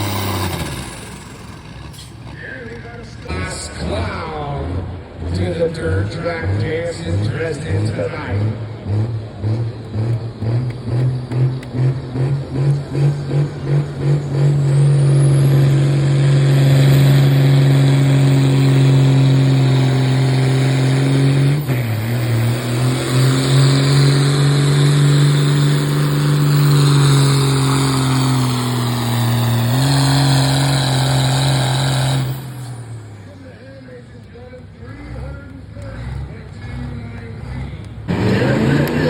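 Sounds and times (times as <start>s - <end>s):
truck engine at high revs: 0.0s - 39.0s.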